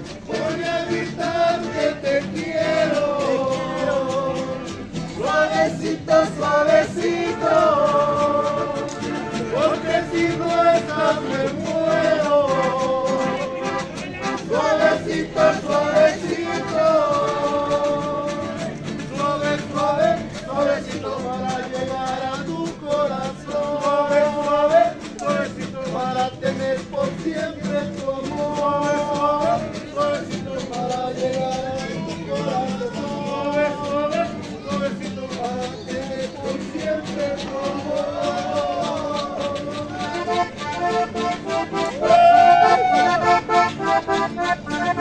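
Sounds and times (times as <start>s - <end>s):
accordion: 0.0s - 45.0s
strummed guitars: 0.0s - 45.0s.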